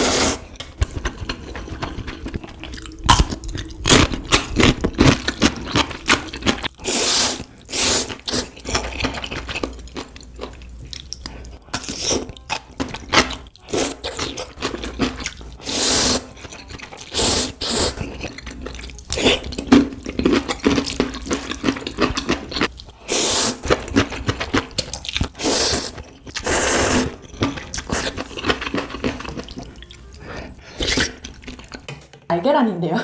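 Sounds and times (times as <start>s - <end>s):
noodle slurping: 0.0s - 12.4s, 13.2s - 31.8s
wet chewing: 0.0s - 31.9s.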